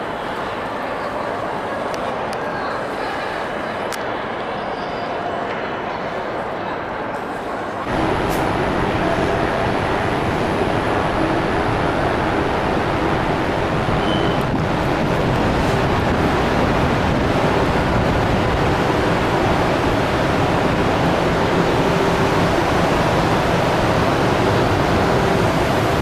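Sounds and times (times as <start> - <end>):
station hall ambient hiss and rumble: 0.0 - 26.0.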